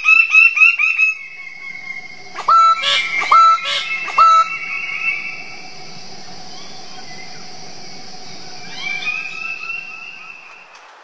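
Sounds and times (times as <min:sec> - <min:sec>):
bird calls: 0:00.0 - 0:10.8
high-pitched forest hiss: 0:00.0 - 0:11.0.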